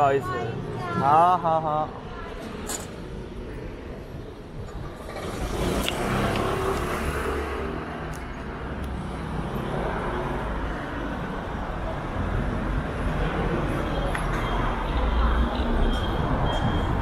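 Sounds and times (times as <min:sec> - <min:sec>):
cars and scooters passing: 0:00.0 - 0:17.0.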